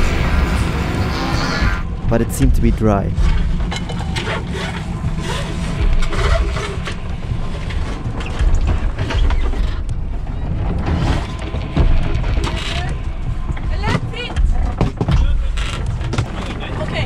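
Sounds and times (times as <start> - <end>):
low rumble: 0.0 - 16.1.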